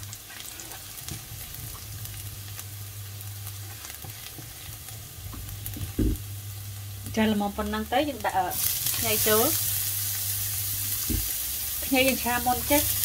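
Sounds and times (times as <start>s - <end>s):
garlic sizzling in oil: 0.0s - 13.0s
steady low hum: 0.8s - 13.0s.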